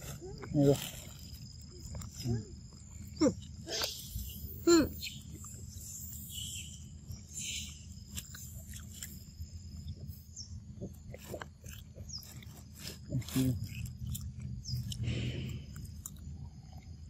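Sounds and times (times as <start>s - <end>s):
monkeys chewing fruit: 0.0s - 17.0s
steady low rumble: 0.0s - 17.0s.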